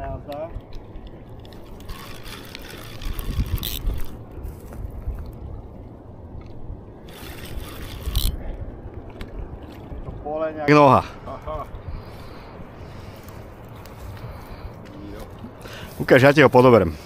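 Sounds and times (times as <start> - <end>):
low rumbling noise: 0.0 - 16.2.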